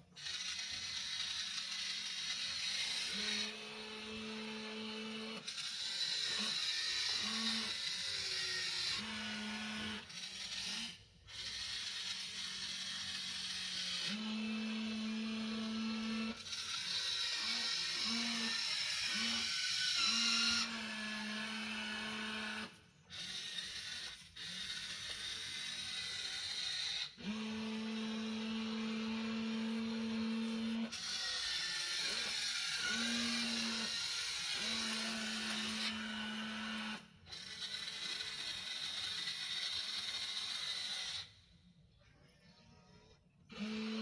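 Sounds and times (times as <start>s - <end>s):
electric gear motors whining: 0.0s - 41.6s, 43.1s - 44.0s.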